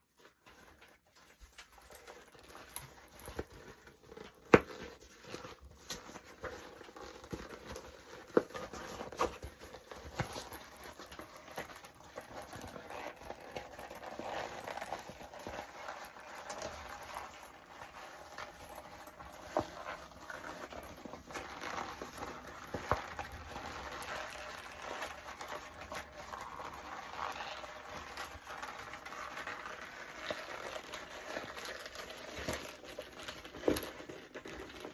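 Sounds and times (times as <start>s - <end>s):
leather creaking and rustling: 0.0s - 34.9s.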